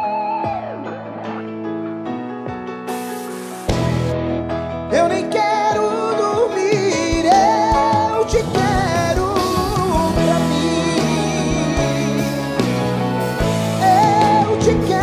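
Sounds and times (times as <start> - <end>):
live band playing instrumental: 0.0 - 15.0.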